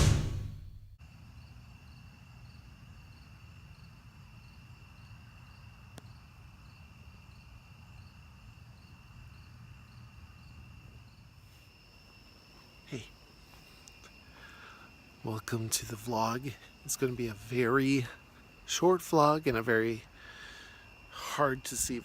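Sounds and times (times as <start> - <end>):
insect chirping in pulses: 1.0 - 22.0
insect steady high trill: 1.0 - 22.0.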